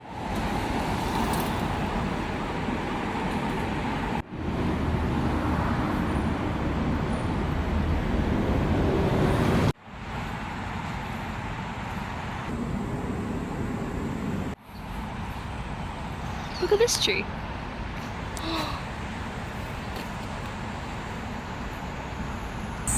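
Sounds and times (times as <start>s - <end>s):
highway traffic rumble: 0.0s - 22.9s.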